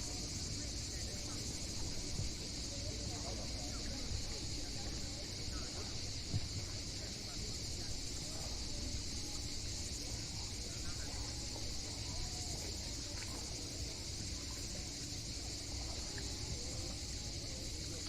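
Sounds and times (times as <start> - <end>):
cicadas chorus: 0.0 - 18.0.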